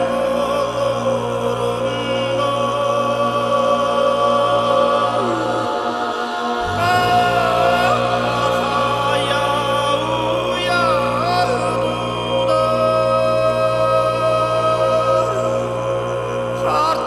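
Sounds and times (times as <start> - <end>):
throat singing drone: 0.0 - 17.0.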